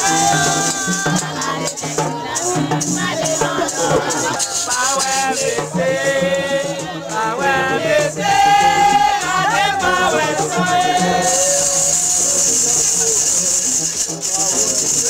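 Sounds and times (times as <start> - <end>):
shakers rattling: 0.0 - 6.0, 8.0 - 15.0
voices singing a chant: 0.0 - 15.0.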